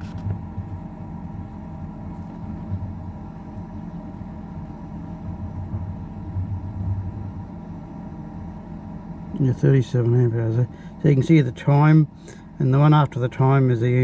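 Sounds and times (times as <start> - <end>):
fridge compressor and fan running: 0.0 - 14.0.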